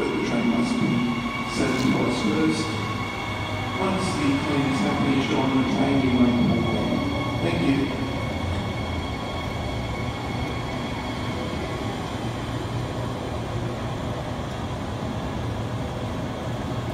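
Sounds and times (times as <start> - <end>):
electric train equipment humming: 0.0 - 16.9.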